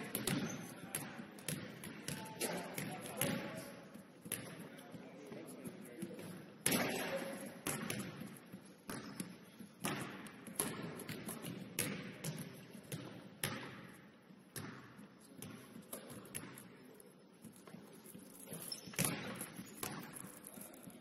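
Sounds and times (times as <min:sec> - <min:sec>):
basketballs bouncing on hardwood floor: 0:00.0 - 0:05.1, 0:06.0 - 0:16.8, 0:17.5 - 0:21.0.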